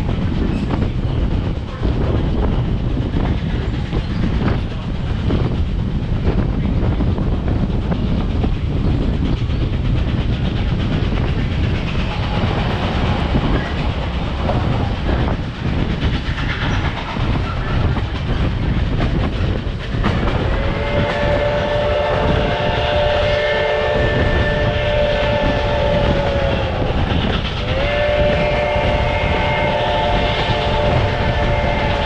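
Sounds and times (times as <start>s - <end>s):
train wheels clattering on rails: 0.0s - 32.0s.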